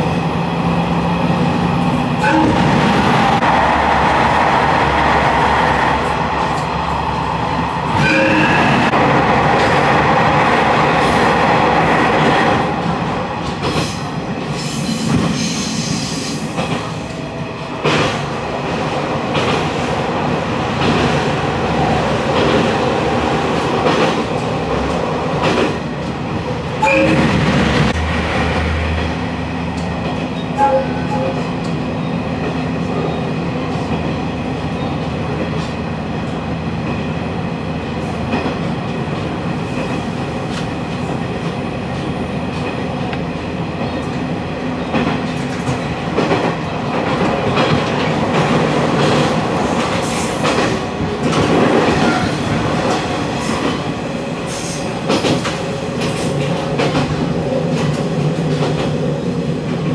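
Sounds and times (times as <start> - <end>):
railcar wheels rumbling: 0.0 - 59.9.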